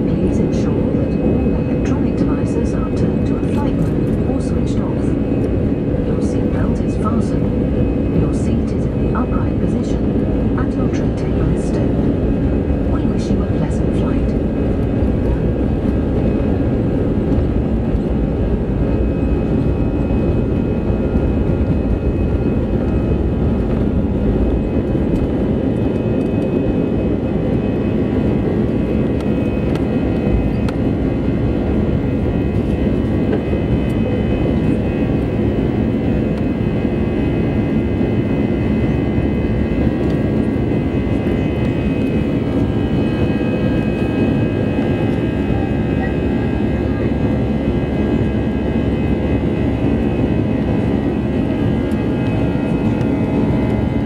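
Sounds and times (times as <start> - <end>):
jet engine rumble in cabin: 0.0 - 54.0
jet engine whine: 0.0 - 54.0.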